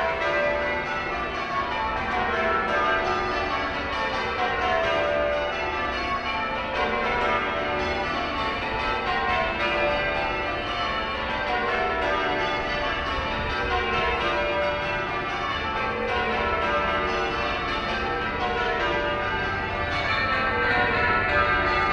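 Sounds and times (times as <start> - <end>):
church bells ringing: 0.0 - 21.9.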